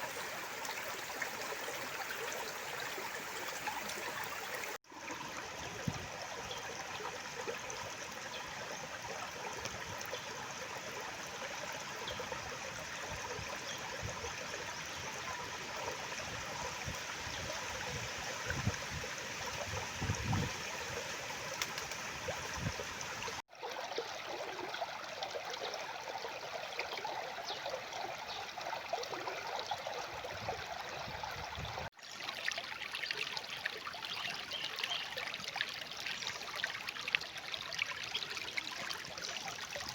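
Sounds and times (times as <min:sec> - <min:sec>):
stream rushing and trickling: 0:00.0 - 0:39.9.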